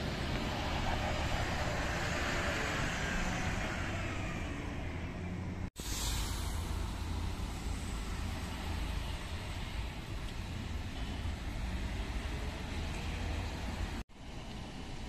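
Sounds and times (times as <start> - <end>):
bus driving past: 0.0 - 15.0
tyre and road noise: 0.0 - 15.0.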